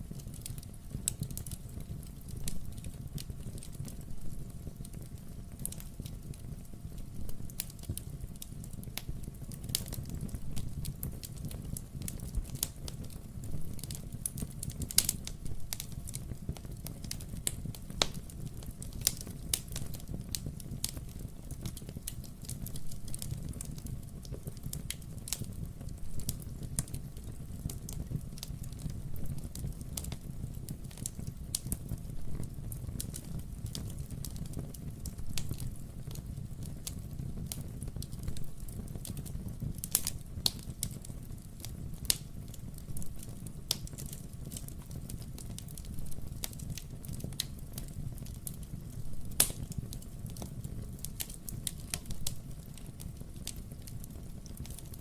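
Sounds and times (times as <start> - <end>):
low rumble of fire: 0.0 - 55.0
wood fire crackling and popping: 0.0 - 55.0.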